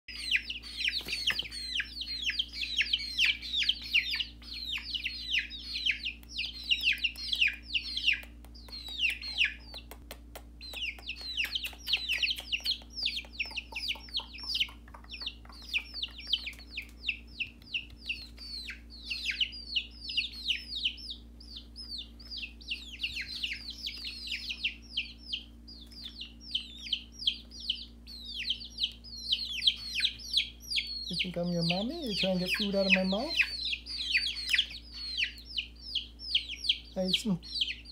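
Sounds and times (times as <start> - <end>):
baby chickens peeping: 0.1 - 37.9
faint steady hum: 0.1 - 37.9.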